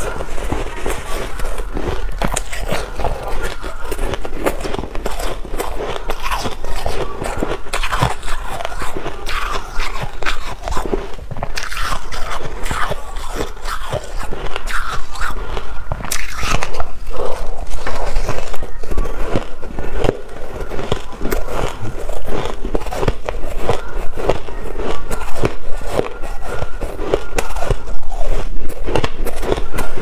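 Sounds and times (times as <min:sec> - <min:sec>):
chewing crunchy ice: 0:00.0 - 0:30.0.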